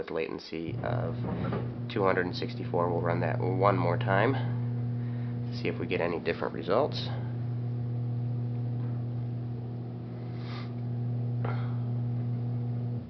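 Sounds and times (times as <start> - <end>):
steady low hum: 0.6 - 13.0.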